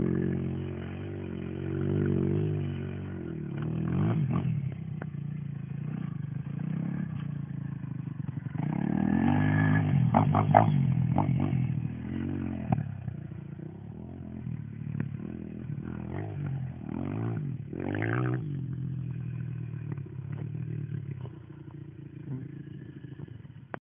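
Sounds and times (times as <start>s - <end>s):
distant dirt bike engine revving: 0.0s - 23.8s.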